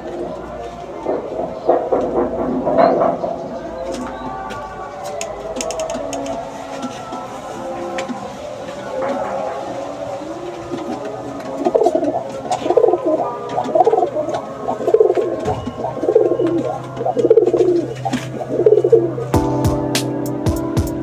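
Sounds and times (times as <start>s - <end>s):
pigeon cooing: 0.0s - 21.0s.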